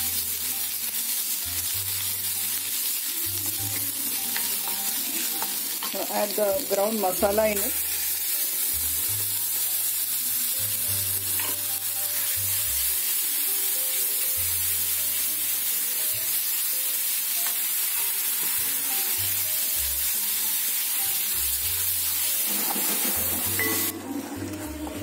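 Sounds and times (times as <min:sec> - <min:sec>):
paste sizzling in hot oil: 0:00.0 - 0:24.6.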